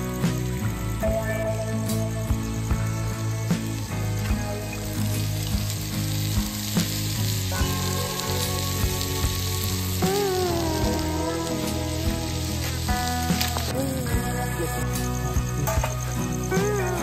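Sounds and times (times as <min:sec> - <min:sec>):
background music with steady beat: 0:00.0 - 0:17.0
chicken sizzling and frying: 0:00.0 - 0:17.0.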